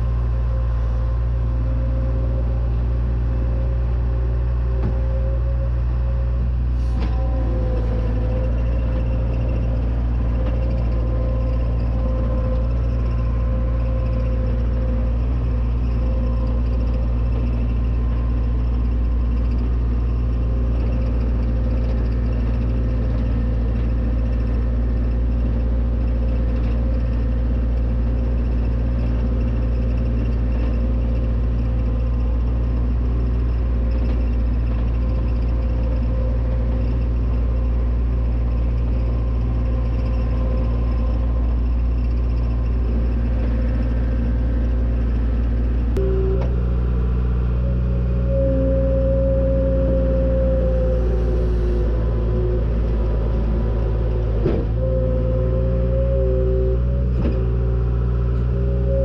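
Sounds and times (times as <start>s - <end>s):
diesel engine droning: 0.0s - 59.0s
engine whine: 0.0s - 59.0s.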